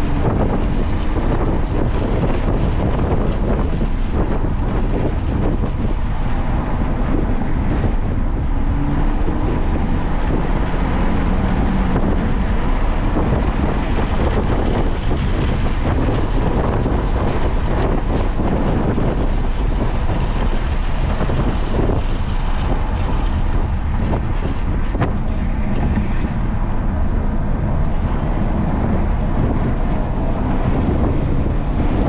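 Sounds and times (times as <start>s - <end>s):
engine and road noise: 0.0s - 32.0s
wind rush on microphone: 0.0s - 32.0s.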